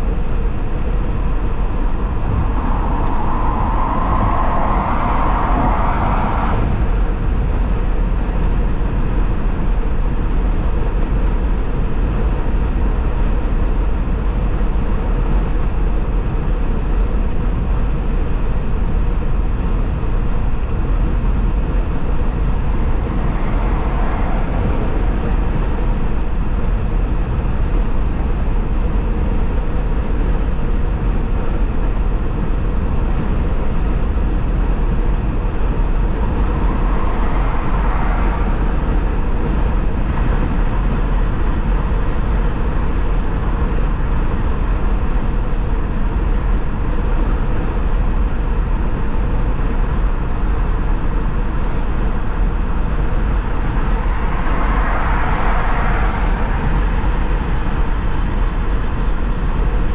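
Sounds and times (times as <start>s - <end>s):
deep constant road rumble: 0.0s - 59.9s.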